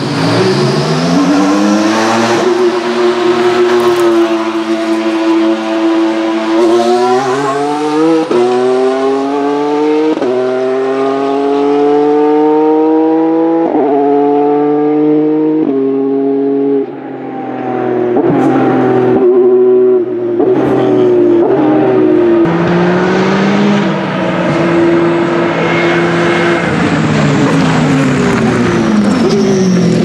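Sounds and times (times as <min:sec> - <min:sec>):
race car engine accelerating: 0:00.0 - 0:30.0.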